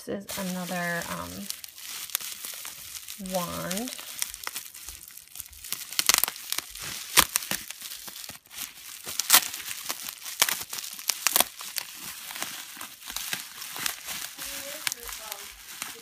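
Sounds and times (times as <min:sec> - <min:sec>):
bubble wrap crinkling: 0:00.2 - 0:16.0
sharp plastic crackles: 0:00.3 - 0:16.0.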